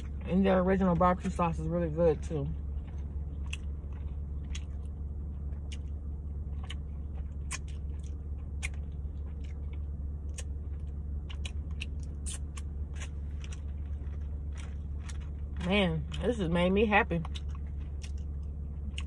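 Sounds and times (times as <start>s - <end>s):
steady low hum: 0.0s - 19.0s
person chewing: 2.6s - 16.2s, 17.2s - 19.0s.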